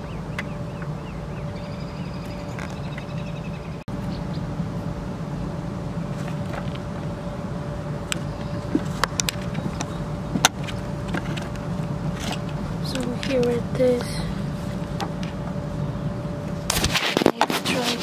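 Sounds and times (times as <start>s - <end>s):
bicycle rolling rumble: 0.0s - 18.0s
faint steady hum: 0.0s - 18.0s.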